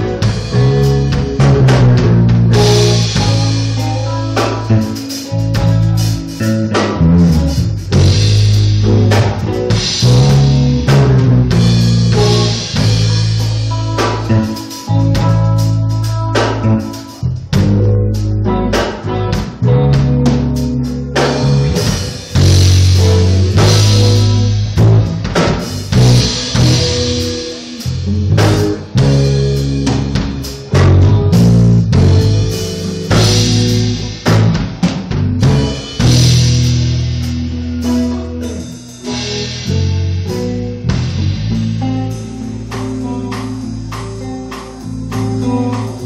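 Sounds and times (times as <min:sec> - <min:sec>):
drum kit beat: 0:00.0 - 0:46.0
electric bass guitar: 0:00.0 - 0:46.0
electric lead guitar: 0:00.0 - 0:46.0.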